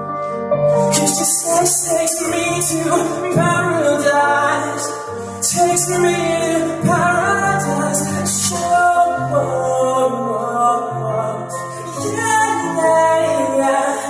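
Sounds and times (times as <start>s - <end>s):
man singing into a microphone: 0.8s - 14.0s.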